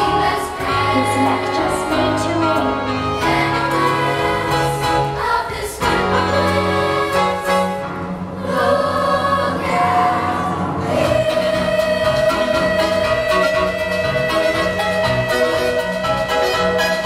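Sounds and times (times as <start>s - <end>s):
choir singing: 0.0s - 16.8s
instrumental backing: 0.0s - 17.0s.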